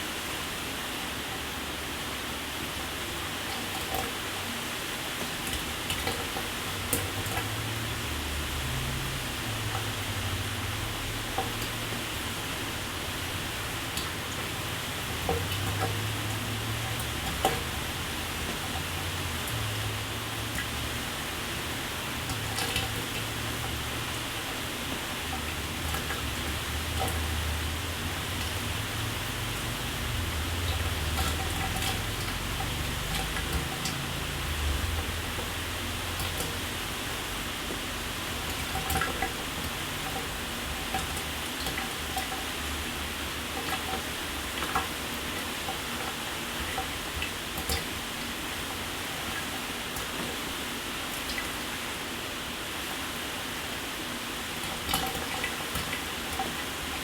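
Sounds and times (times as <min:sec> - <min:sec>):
faint water drips: 0:05.1 - 0:51.8, 0:54.6 - 0:57.0.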